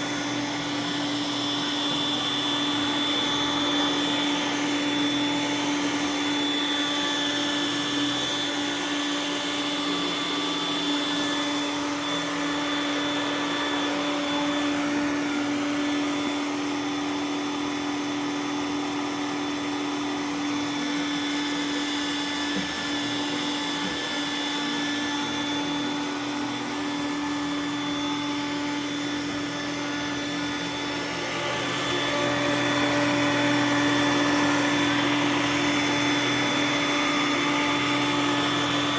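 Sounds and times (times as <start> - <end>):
robot vacuum running: 0.0 - 38.9.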